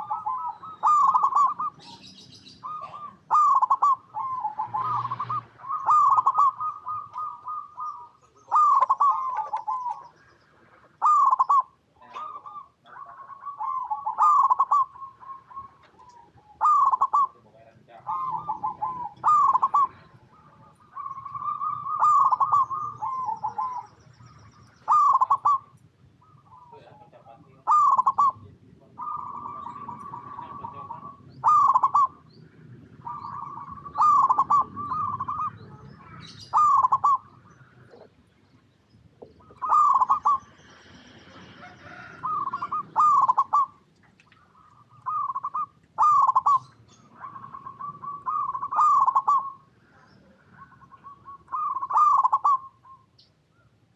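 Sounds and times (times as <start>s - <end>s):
dove trilling coos: 0.0s - 53.9s.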